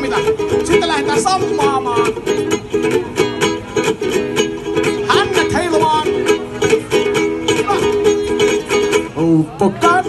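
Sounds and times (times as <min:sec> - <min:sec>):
ukulele strumming: 0:00.0 - 0:10.0.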